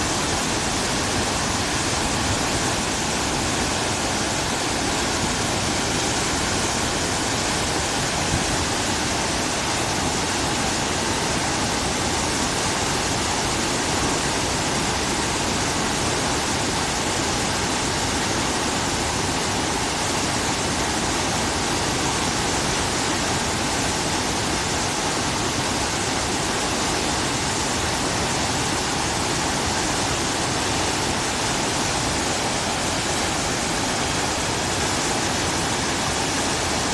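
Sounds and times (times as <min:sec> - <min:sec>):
river rushing: 0:00.0 - 0:36.9.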